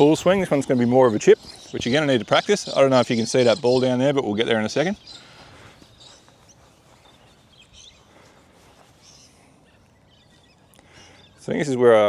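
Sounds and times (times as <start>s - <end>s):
distant bird chirps: 0.0s - 12.0s
faint outdoor ambience: 0.0s - 12.0s.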